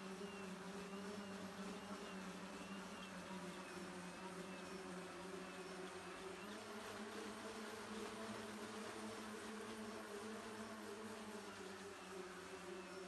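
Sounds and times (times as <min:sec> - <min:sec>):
electric rotorcraft buzzing hum: 0:00.0 - 0:13.0.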